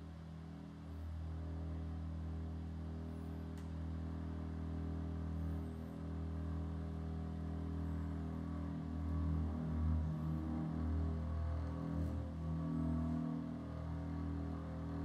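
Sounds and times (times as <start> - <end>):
bowed double bass drone: 0.0 - 15.0.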